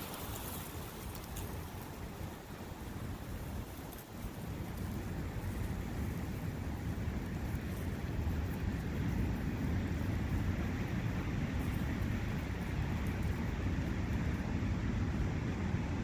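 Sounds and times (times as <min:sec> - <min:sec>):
brook running: 0:00.0 - 0:15.3
wind: 0:00.0 - 0:16.0.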